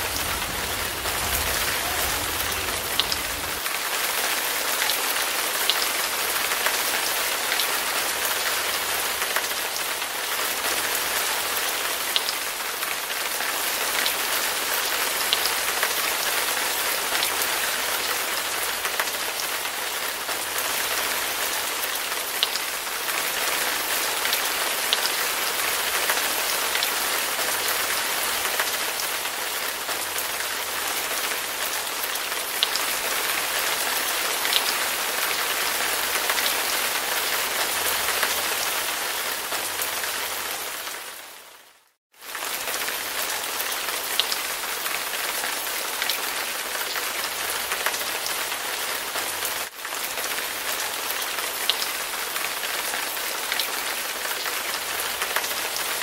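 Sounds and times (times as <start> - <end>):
heavy rain on paving: 0.0 - 56.0.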